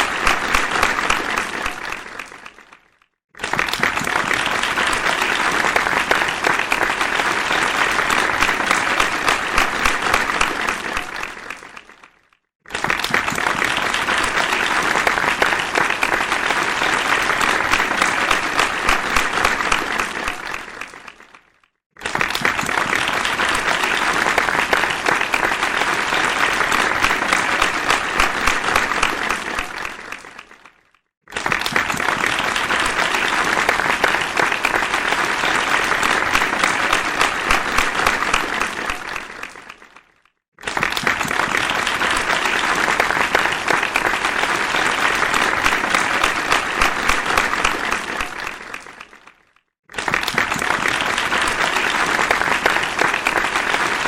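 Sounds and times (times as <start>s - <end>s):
crowd applause: 0.0s - 54.0s.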